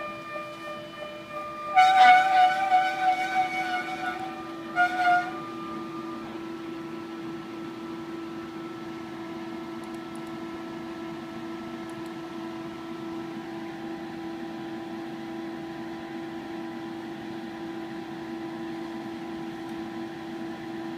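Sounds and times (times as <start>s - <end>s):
laboratory equipment humming: 0.0s - 20.9s.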